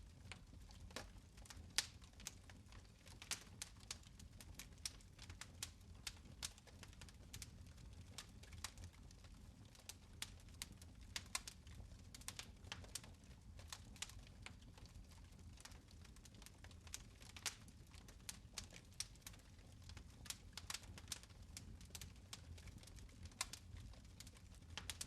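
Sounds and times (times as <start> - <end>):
low fire rumble: 0.0 - 25.0
fire crackling and popping: 0.1 - 25.0.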